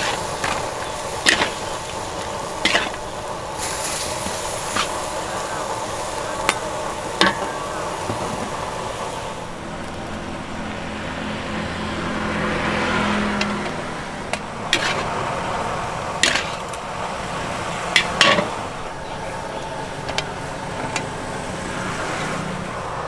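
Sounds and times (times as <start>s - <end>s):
vehicle engine hum passing: 0.0s - 23.0s.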